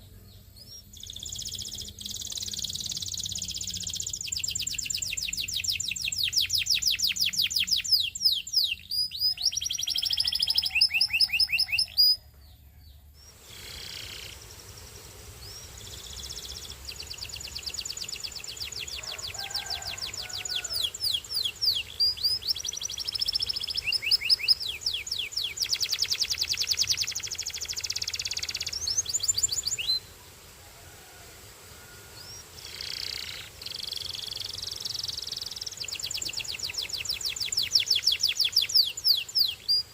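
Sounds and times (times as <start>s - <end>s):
canary singing trills: 0.0s - 14.8s, 15.4s - 30.1s, 32.2s - 39.9s.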